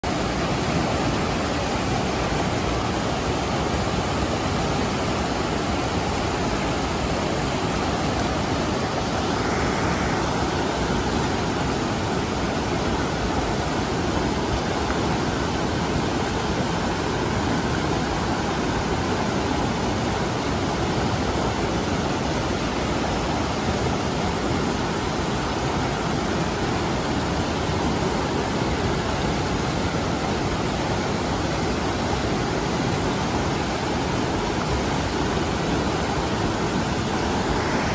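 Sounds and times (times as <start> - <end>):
river rushing over boulders: 0.0 - 37.9.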